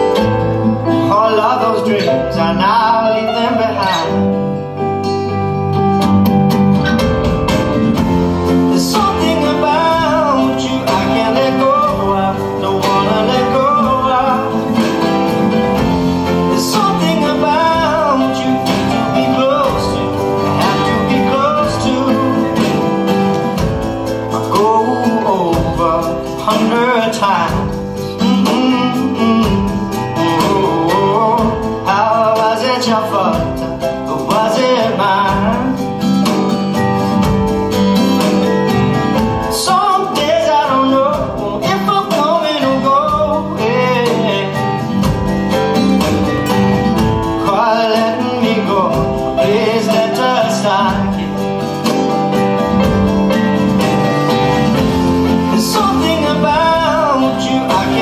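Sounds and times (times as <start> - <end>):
person singing: 0.0 - 5.4, 8.0 - 36.4, 39.2 - 58.0
guitar accompaniment: 0.0 - 58.0.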